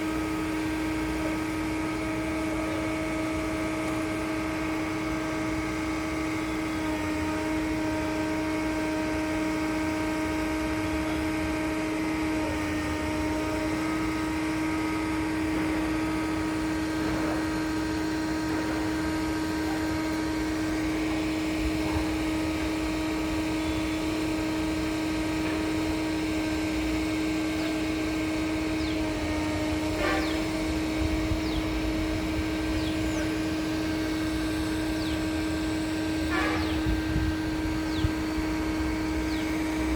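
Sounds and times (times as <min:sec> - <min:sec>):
pump machinery humming: 0:00.0 - 0:39.9.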